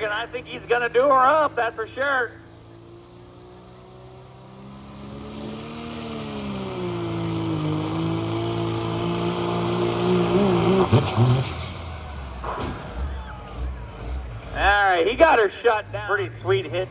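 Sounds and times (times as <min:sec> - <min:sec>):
tractor diesel engine under load: 0:00.0 - 0:16.9.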